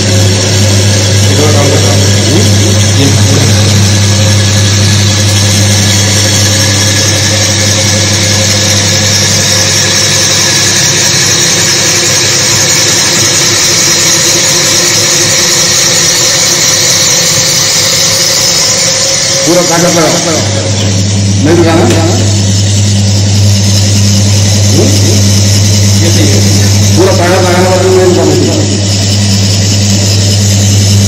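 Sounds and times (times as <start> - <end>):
electric motor humming: 0.0 - 31.0.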